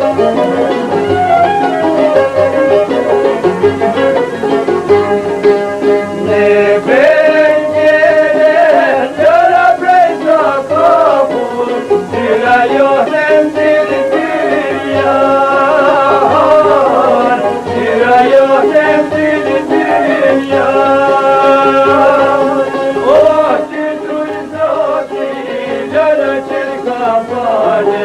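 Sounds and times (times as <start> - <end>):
folk music on string instruments: 0.0 - 28.0.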